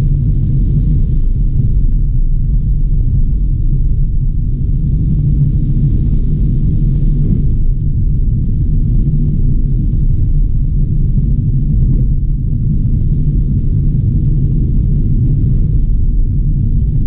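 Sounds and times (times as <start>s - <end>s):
moving car rumble: 0.0s - 17.0s.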